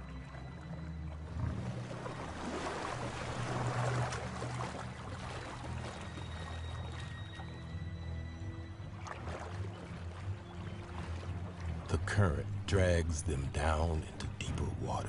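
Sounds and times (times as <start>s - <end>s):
water splashing and churning: 0.0s - 15.0s.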